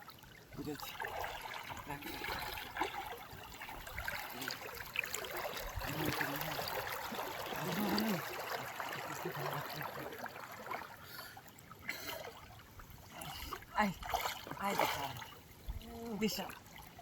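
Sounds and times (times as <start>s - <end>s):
water trickling and sloshing: 0.0s - 17.0s.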